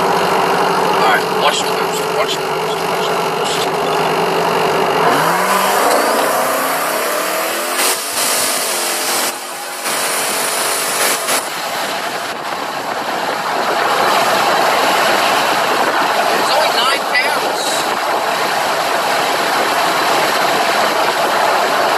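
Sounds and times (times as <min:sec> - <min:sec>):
car engine at full throttle: 0:00.0 - 0:21.9
wind and road noise: 0:00.0 - 0:21.9.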